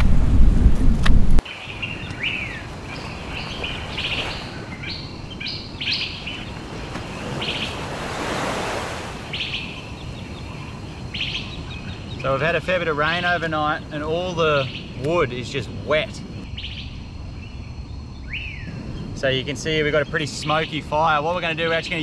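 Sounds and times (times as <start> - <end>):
wind rumbling on microphone: 0.0 - 22.0
birds chirping: 1.4 - 22.0.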